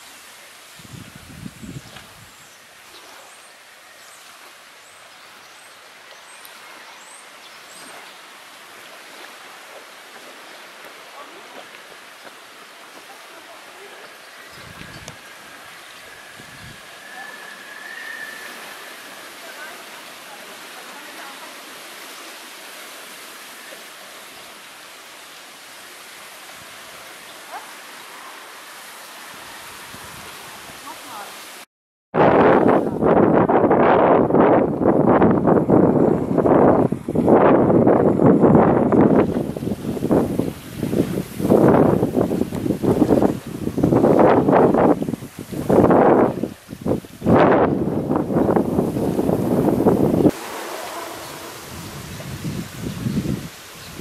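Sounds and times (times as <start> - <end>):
choppy waves: 0.0 - 54.0
rustling wind: 0.0 - 54.0.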